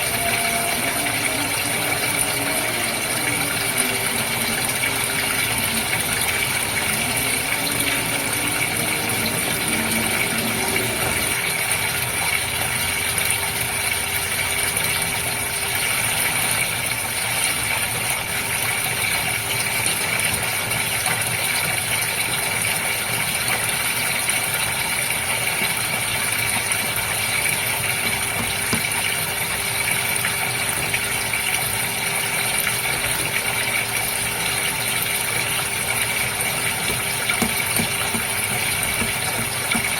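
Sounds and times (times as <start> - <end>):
aquarium pump humming: 0.0 - 39.9
water splashing and trickling: 0.0 - 39.9.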